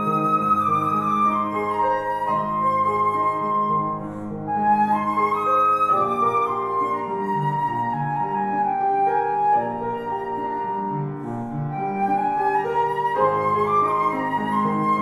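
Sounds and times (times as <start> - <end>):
flute melody: 0.0 - 15.0
piano chords: 0.0 - 15.0.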